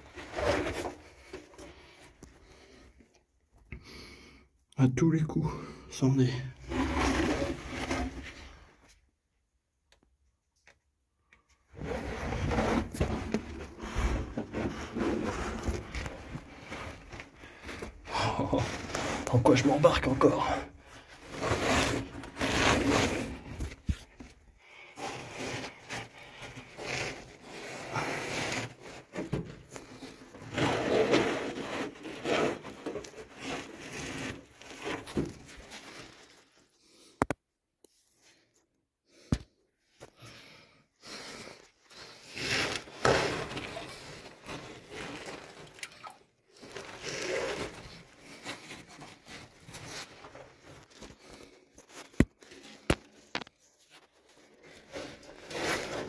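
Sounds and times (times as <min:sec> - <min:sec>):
clothing scraping against cave rock: 0:00.0 - 0:02.8, 0:06.4 - 0:09.0, 0:11.7 - 0:36.7, 0:41.0 - 0:56.0.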